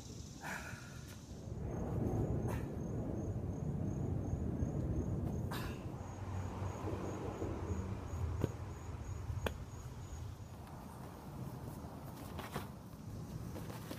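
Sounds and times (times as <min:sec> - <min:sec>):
insect chirping trill: 0:00.0 - 0:12.0
low outdoor rumble: 0:00.0 - 0:13.9.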